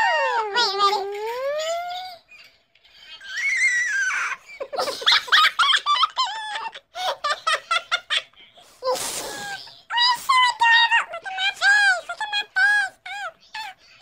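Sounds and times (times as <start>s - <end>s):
high-pitched squeaky laughing: 0.0s - 14.0s.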